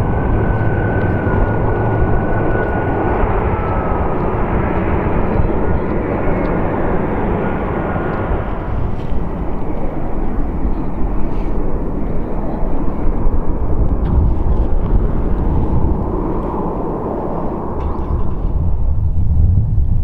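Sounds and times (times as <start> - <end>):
jet engines rumbling at low power: 0.0 - 20.0.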